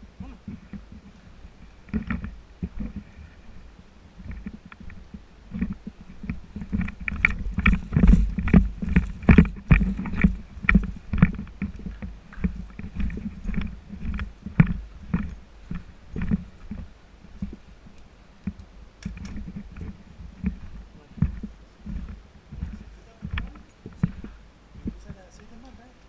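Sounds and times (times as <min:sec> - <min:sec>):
microphone handling rumble: 0:00.0 - 0:25.9
footsteps: 0:00.0 - 0:26.0.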